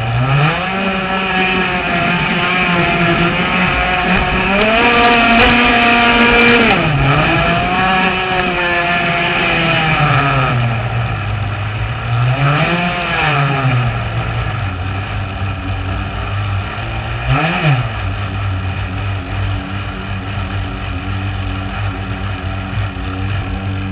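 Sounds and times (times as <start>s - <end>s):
small two-stroke boat engine: 0.0s - 23.9s.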